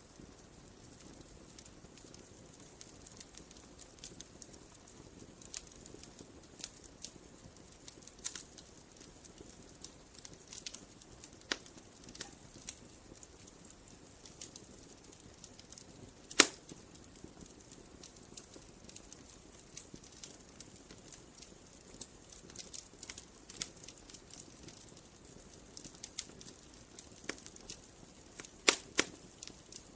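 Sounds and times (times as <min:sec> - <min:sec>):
campfire crackling and popping: 0:00.0 - 0:29.9
low hiss of fire: 0:00.0 - 0:29.9.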